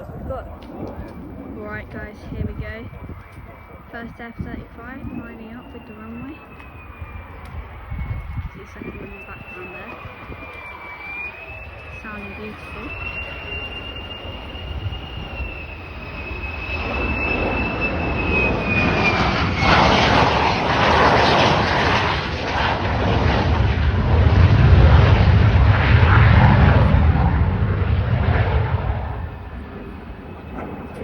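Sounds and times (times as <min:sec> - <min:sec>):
high steady jet whine: 0:00.0 - 0:31.0
jet passing: 0:00.0 - 0:31.0.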